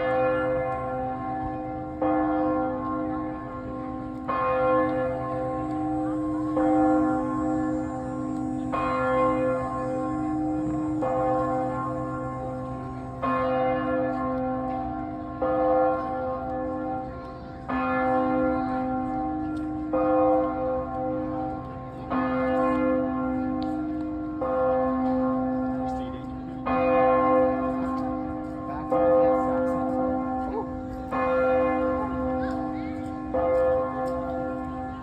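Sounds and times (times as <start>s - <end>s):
church bell ringing: 0.0s - 35.0s.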